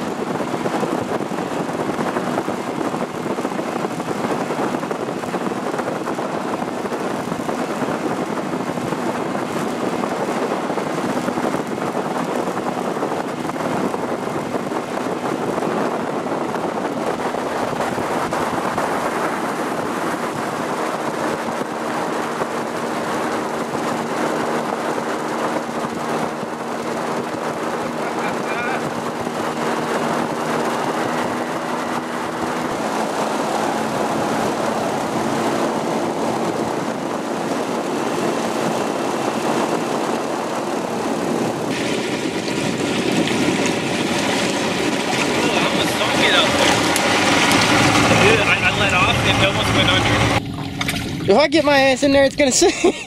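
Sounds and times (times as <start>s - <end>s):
outboard boat motors: 0.0s - 53.0s
water rushing past hull: 0.0s - 53.0s
wind on microphone: 0.0s - 53.0s.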